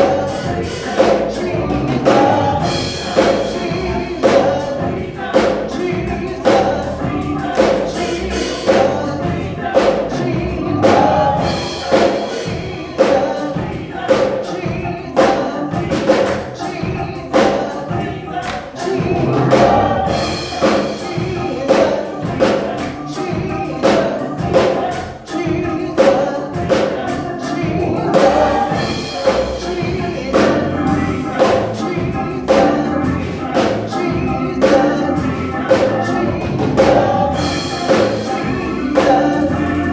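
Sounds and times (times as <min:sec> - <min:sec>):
band accompaniment with steady beat: 0:00.0 - 0:39.9
gospel choir singing: 0:00.0 - 0:39.9.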